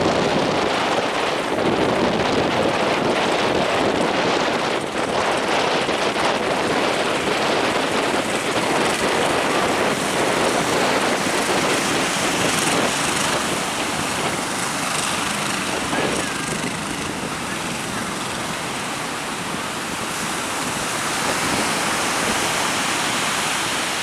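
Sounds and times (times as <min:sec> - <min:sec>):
waves breaking: 0:00.0 - 0:24.0
wind on microphone: 0:00.0 - 0:24.0.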